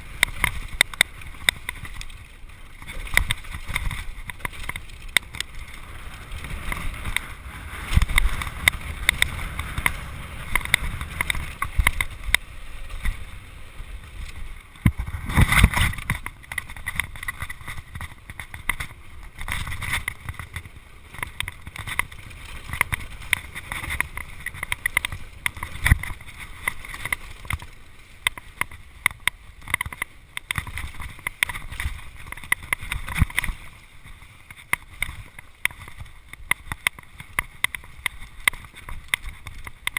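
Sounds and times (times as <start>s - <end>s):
bike rattling and knocking: 0.0s - 39.9s
bike tyres rolling on dirt: 0.0s - 39.9s.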